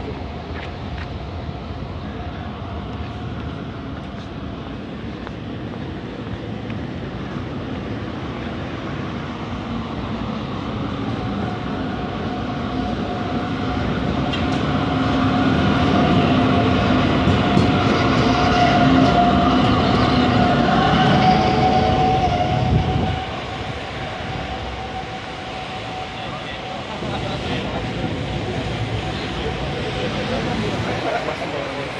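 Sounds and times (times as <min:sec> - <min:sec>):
tram passing on rails: 0:00.0 - 0:31.9.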